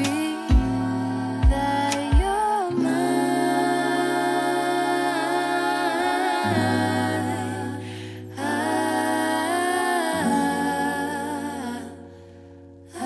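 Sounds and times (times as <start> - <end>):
slow held vocal notes: 0.0 - 13.0.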